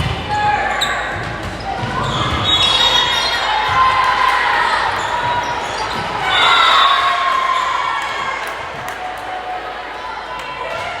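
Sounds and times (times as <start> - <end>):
voices of players and spectators: 0.0 - 11.0.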